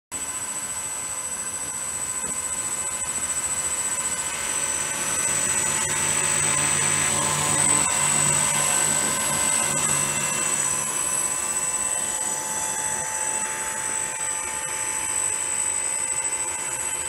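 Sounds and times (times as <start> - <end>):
electric motor high whine: 0.2 - 17.0
low propeller hum: 0.2 - 17.0.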